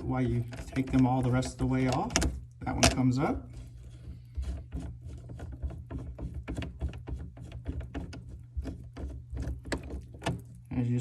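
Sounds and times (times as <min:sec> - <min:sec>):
threaded nuts clicking and ticking: 0:00.1 - 0:03.3, 0:04.0 - 0:10.7.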